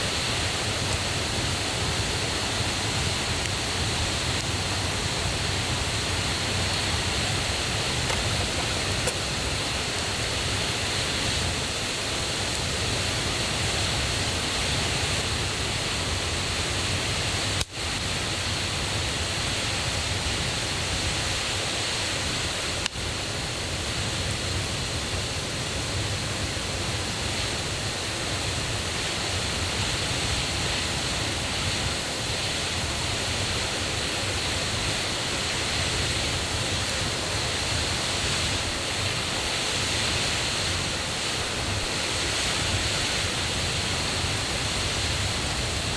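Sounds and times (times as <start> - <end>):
river and waterfall rushing: 0.0 - 45.9.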